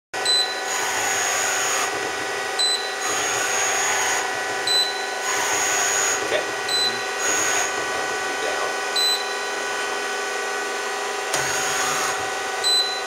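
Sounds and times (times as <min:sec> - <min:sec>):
longer high whine: 0:00.2 - 0:13.0
machine whine: 0:00.2 - 0:13.0.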